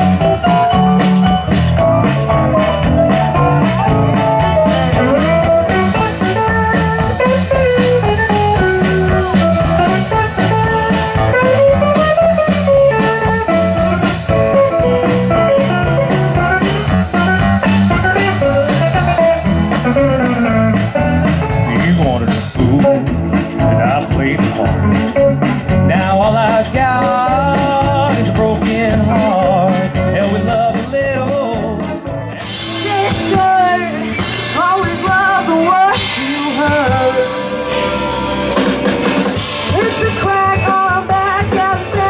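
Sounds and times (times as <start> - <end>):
electric guitar lead: 0.0 - 42.0
organ chords: 0.0 - 42.0
steady drum beat: 0.0 - 42.0.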